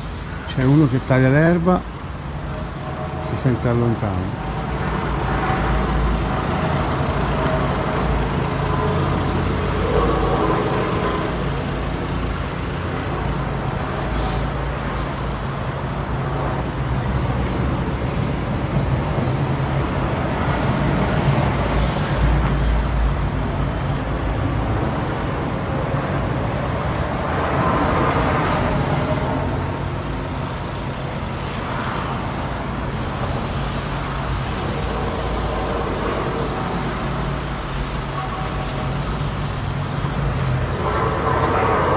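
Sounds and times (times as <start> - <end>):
distant traffic-like noise: 0.0 - 41.9.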